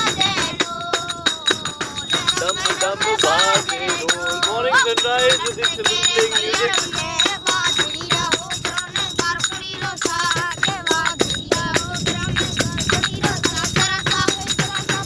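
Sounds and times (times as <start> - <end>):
rapid sharp percussion clicks: 0.0 - 15.0.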